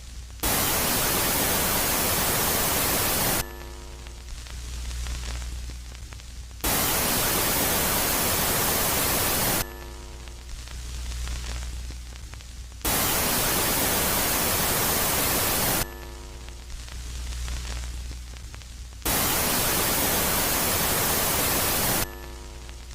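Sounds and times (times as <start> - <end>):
loud white noise static: 0.0 - 22.9
low electronic hum: 0.0 - 22.9.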